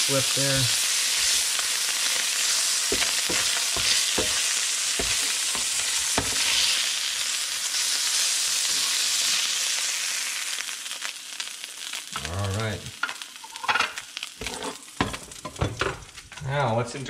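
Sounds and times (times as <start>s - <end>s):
fish sizzling in a frying pan: 0.0s - 16.3s.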